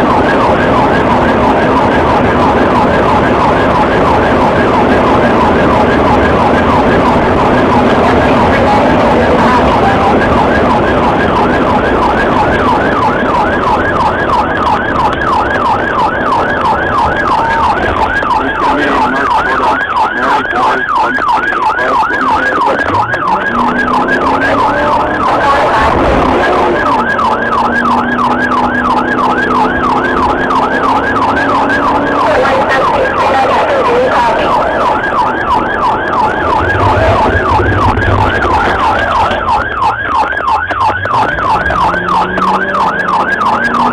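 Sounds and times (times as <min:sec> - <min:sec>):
car engine and road noise: 0:00.0 - 0:43.9
police siren yelping: 0:00.0 - 0:43.9.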